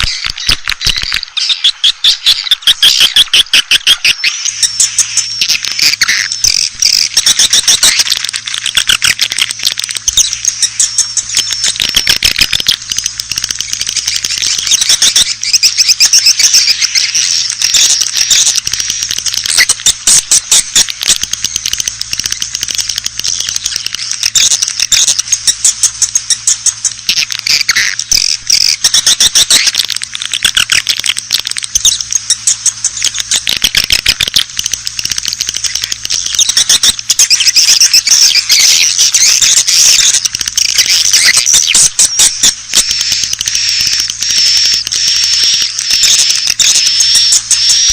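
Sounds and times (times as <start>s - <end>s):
swiftlets chattering: 3.8s - 47.9s.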